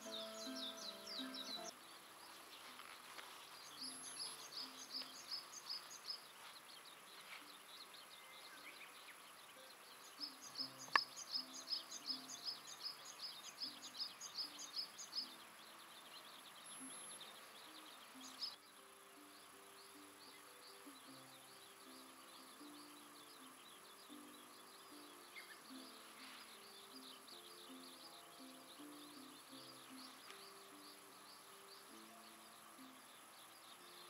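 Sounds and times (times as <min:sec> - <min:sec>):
bird chirping: 0:00.0 - 0:34.0.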